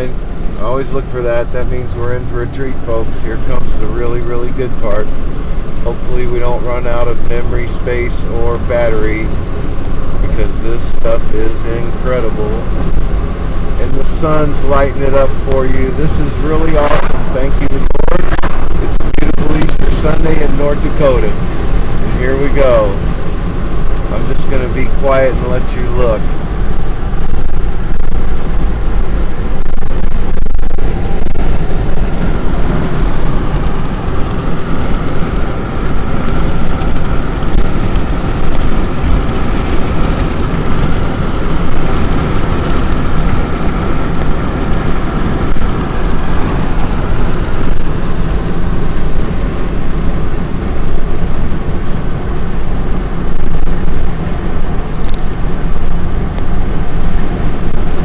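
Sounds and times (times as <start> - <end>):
low rumble: 0.0 - 58.0
wind and road noise in car: 0.0 - 58.0.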